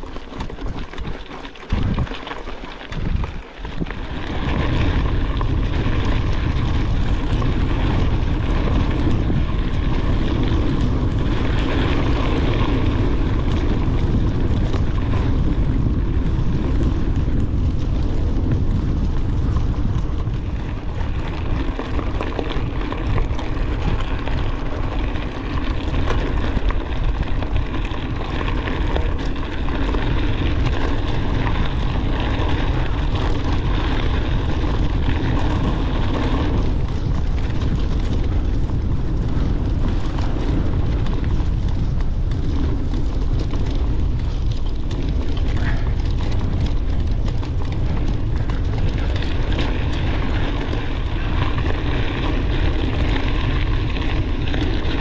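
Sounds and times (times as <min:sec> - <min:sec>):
bike rattling and knocking: 0:00.0 - 0:55.0
wind on microphone: 0:00.0 - 0:55.0.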